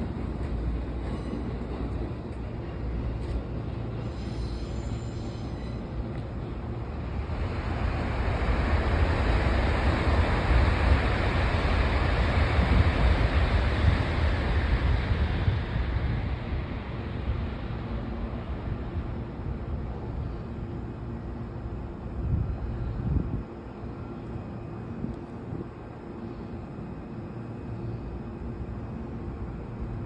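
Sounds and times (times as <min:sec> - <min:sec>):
electric train rumbling hiss: 0:00.0 - 0:30.0.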